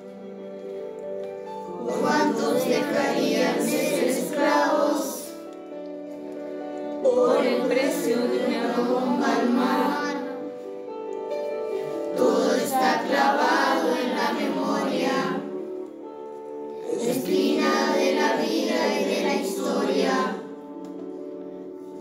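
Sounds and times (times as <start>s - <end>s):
song with singing: 0.0s - 22.0s.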